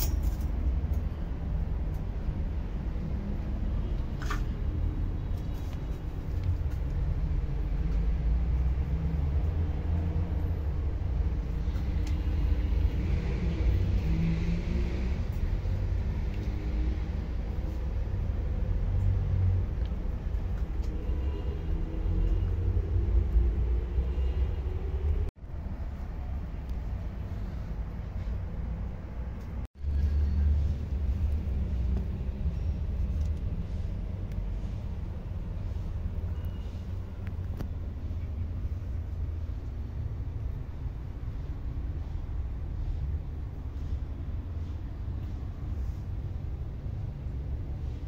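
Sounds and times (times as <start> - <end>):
low rumble of street traffic: 0.0 - 48.0.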